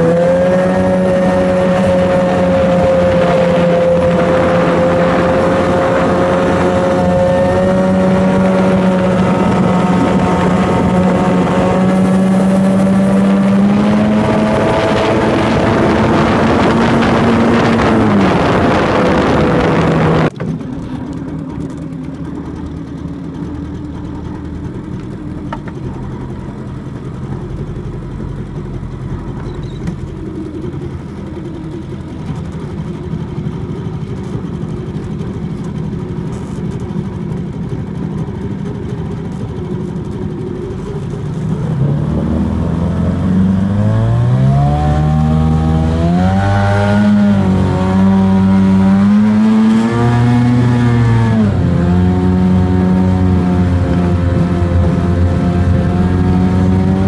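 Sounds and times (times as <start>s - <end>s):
outboard motor revving: 0.0s - 57.0s.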